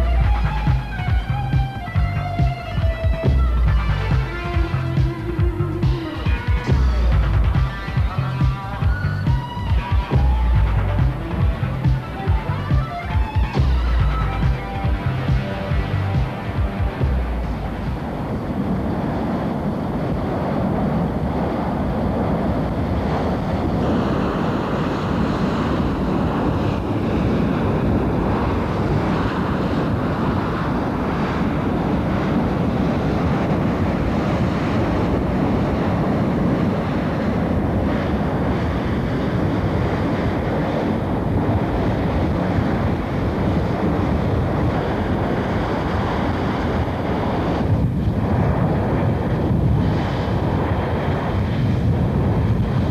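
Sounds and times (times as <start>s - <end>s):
burning well blowout rushing: 0.0s - 52.9s
wind buffeting microphone: 0.0s - 52.9s.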